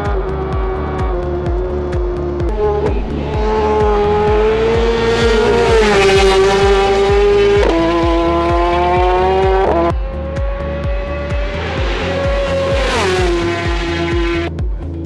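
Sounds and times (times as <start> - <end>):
racing motorcycle engine revving: 0.0 - 14.6
music with bass beat: 0.0 - 15.0.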